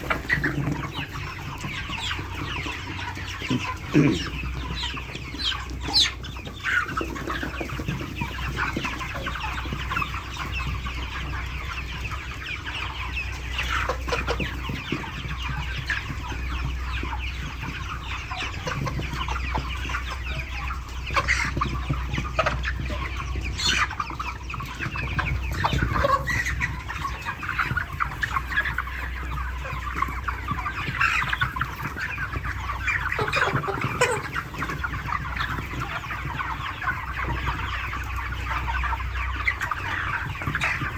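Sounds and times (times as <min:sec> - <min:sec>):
chickens clucking and chirping: 0:00.0 - 0:40.9.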